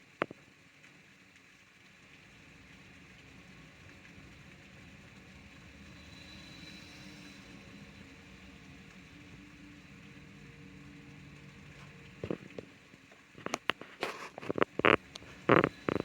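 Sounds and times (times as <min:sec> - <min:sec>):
faint steady rain: 0:00.0 - 0:16.0.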